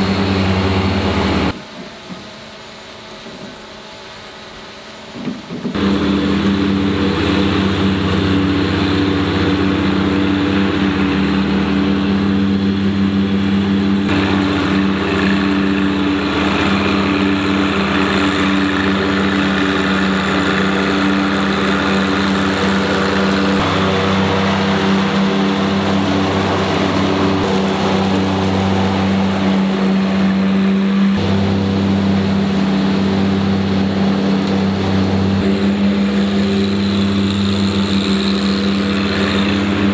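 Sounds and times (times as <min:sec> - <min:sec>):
tractor diesel engine running: 0:00.0 - 0:01.6, 0:05.7 - 0:39.9
blower fan hum: 0:00.0 - 0:39.9.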